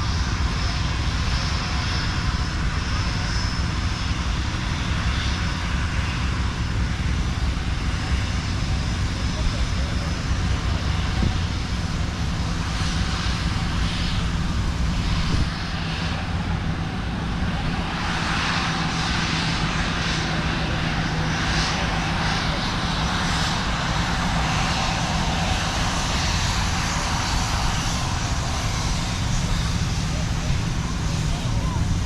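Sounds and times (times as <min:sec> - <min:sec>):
radial piston engines droning: 0:00.0 - 0:32.0.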